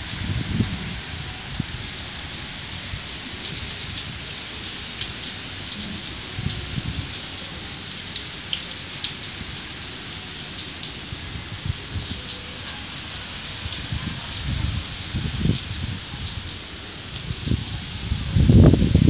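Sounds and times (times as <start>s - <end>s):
heavy rain pouring: 0.0s - 19.0s
raindrops spattering on balcony: 0.0s - 19.0s.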